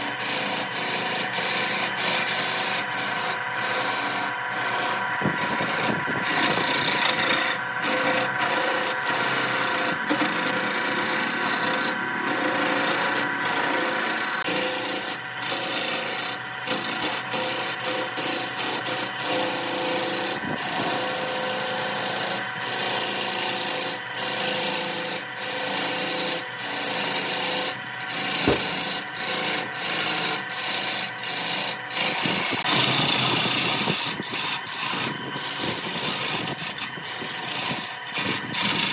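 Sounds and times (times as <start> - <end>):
tool scraping spinning wood: 0.0 - 38.9
wood lathe humming: 0.0 - 38.9.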